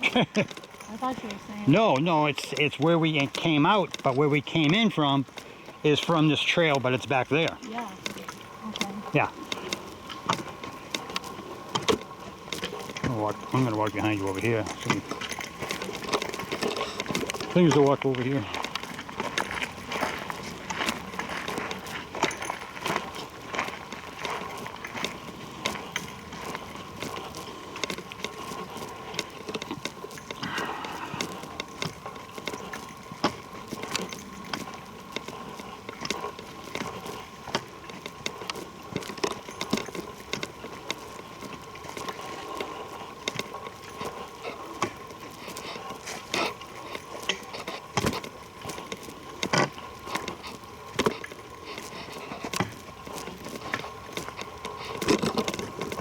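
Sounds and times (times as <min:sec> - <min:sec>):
footsteps crunching on trail: 0:00.0 - 0:56.0.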